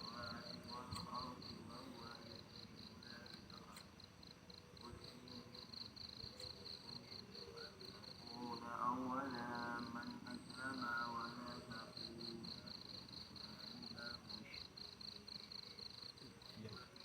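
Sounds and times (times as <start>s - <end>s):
cricket chirping: 0.0s - 17.0s
faint distant voices: 0.0s - 17.0s.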